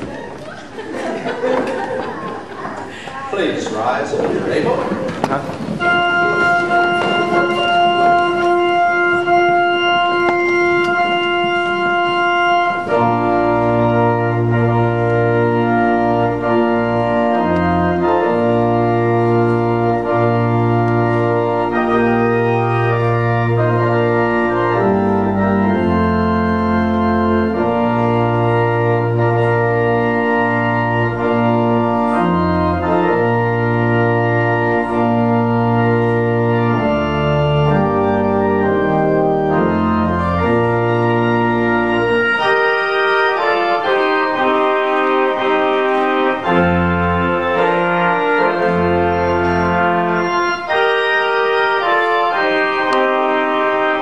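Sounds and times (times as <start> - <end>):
church organ playing chords: 5.6 - 54.0.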